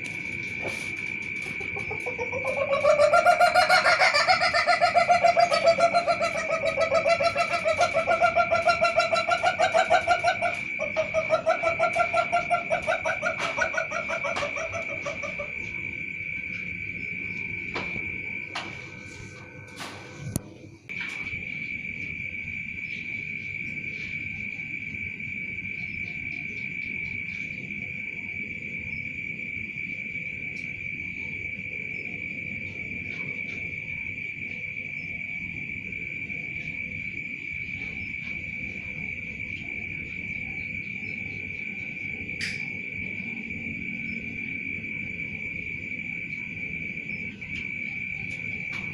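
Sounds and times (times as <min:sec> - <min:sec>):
insect trilling: 0:00.0 - 0:48.9.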